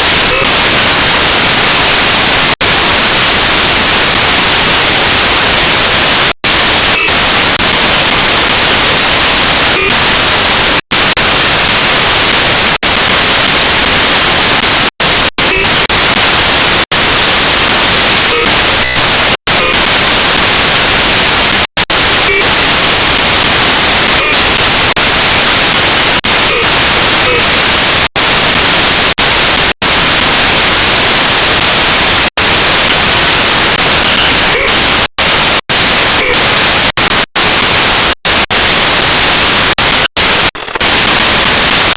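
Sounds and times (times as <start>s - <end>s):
loud static hiss: 0.0s - 41.9s.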